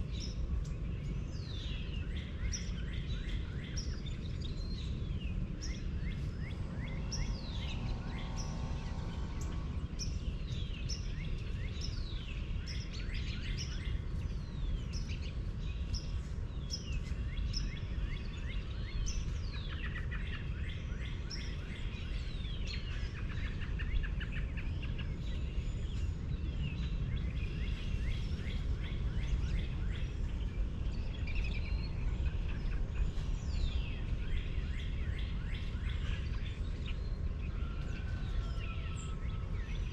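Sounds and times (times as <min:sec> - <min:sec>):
birds singing and calling: 0:00.0 - 0:39.9
steady low rumble: 0:00.0 - 0:39.9.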